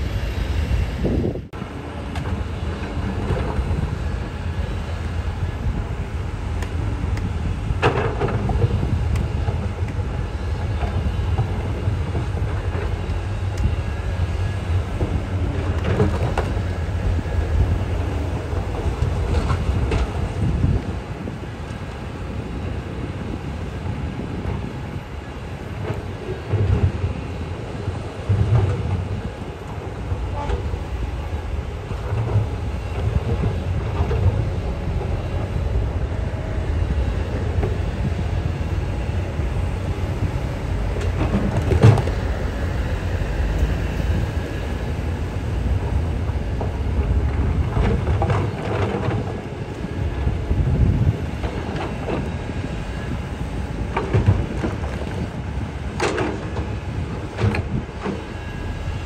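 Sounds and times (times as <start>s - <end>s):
bulldozer diesel engine running: 0.0s - 59.0s
steel tracks clattering: 0.0s - 59.0s.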